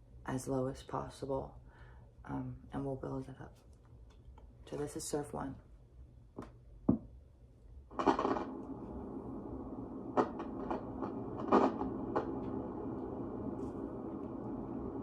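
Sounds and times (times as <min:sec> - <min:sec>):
muffled hiss of filtered noise: 0:00.0 - 0:15.0.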